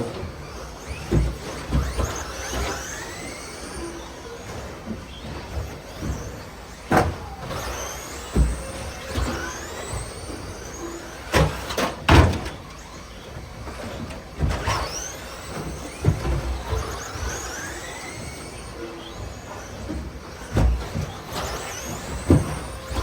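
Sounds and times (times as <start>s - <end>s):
rc truck motors whining: 0.0s - 23.0s.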